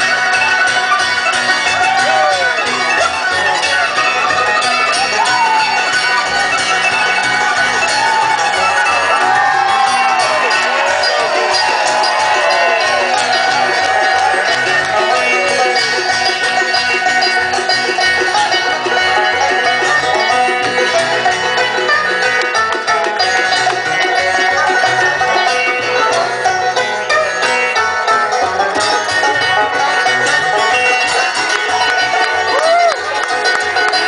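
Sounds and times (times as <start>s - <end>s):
bluegrass band playing: 0.0s - 34.0s.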